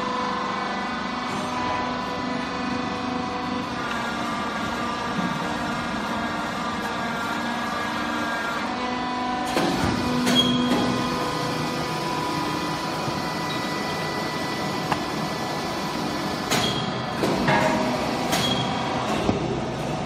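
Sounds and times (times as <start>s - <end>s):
baler motor humming: 0.0s - 20.0s.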